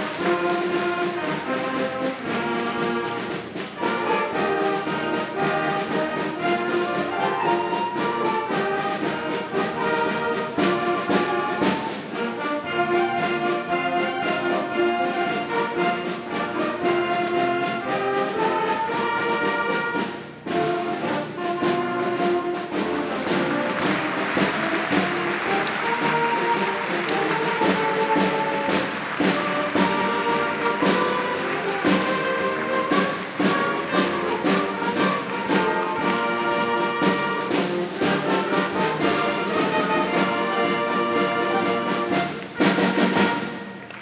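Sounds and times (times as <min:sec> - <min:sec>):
concert band playing chords: 0:00.0 - 0:44.0.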